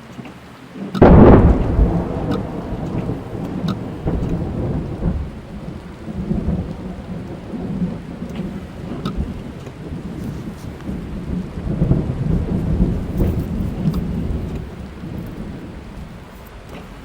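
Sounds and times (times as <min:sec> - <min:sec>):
rain hissing: 0:00.0 - 0:17.0
raindrops ticking on car roof: 0:00.0 - 0:17.0
thunder rolling: 0:00.8 - 0:17.0.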